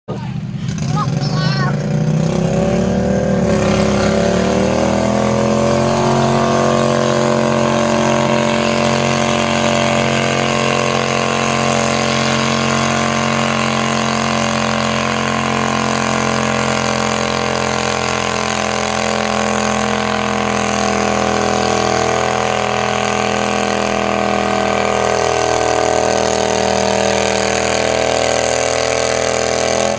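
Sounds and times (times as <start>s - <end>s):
small engine revving: 0.6s - 29.9s.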